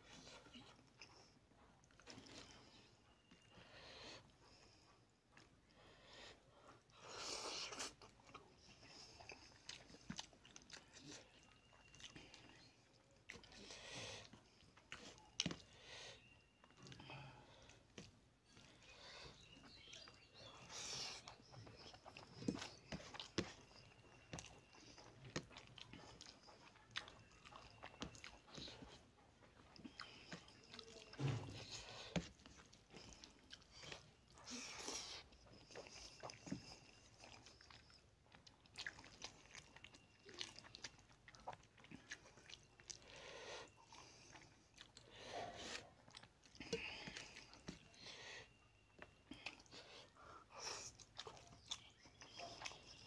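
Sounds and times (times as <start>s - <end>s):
man chewing with wet smacking: 0.0s - 53.0s.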